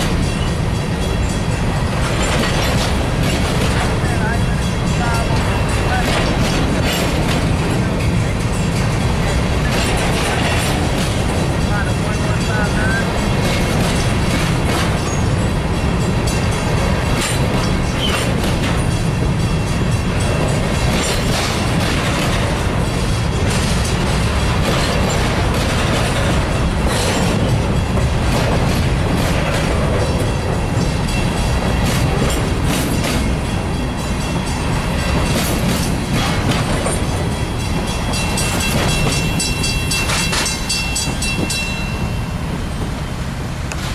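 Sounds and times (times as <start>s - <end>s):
wheels clicking over rail joints: 0.0s - 42.6s
train cars rumbling: 0.0s - 43.9s.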